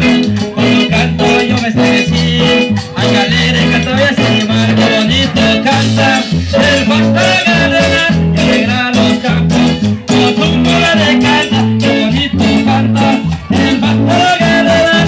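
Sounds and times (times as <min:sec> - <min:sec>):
latin dance music: 0:00.0 - 0:15.0.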